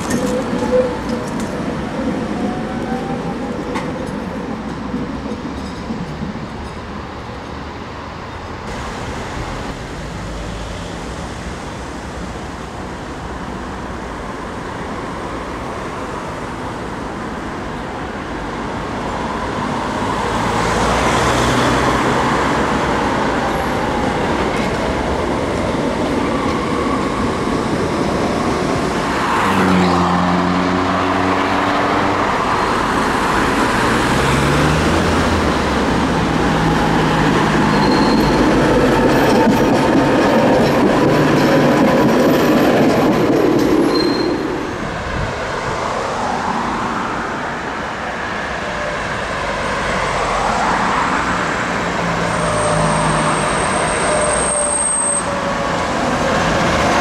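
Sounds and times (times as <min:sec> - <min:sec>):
road traffic: 0:00.0 - 0:57.0
trams rolling on tracks: 0:00.0 - 0:57.0.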